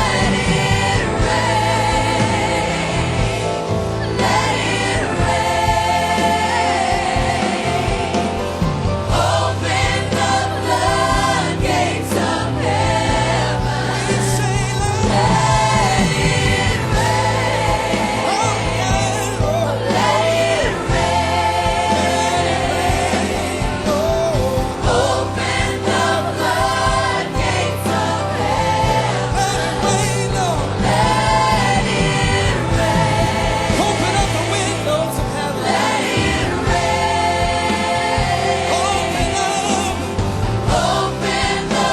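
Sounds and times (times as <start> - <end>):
steady bass line: 0.0 - 41.9
worship band and choir singing: 0.0 - 41.9.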